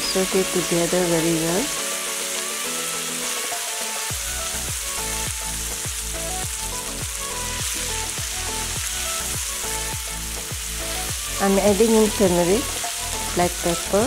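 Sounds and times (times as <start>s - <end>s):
vegetables sizzling in a wok: 0.0s - 14.0s
background music with a beat: 1.7s - 14.0s.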